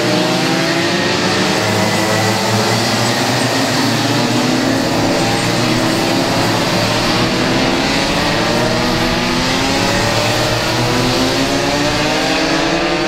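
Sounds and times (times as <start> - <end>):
racing kart engines revving: 0.0 - 13.0.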